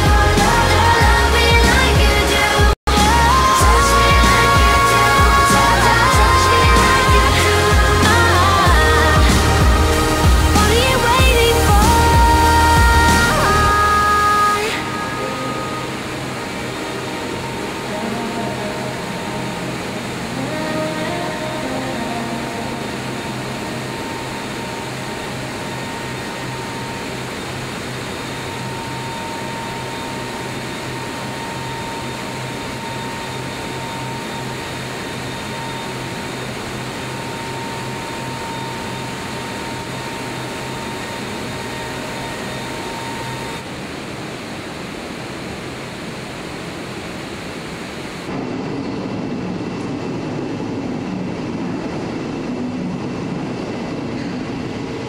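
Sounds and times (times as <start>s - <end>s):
faint steady whine: 0.0s - 55.0s
machinery hum: 0.0s - 55.0s.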